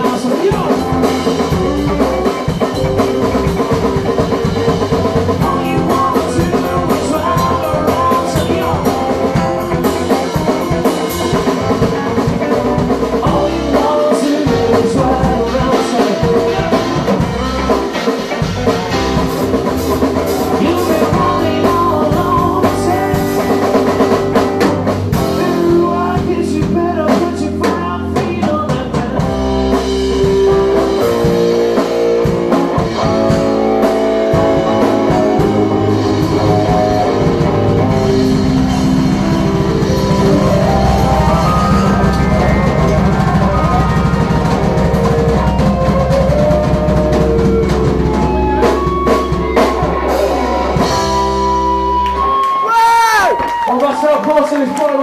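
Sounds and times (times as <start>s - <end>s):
drum kit: 0.0s - 53.8s
electric guitar: 0.0s - 53.8s.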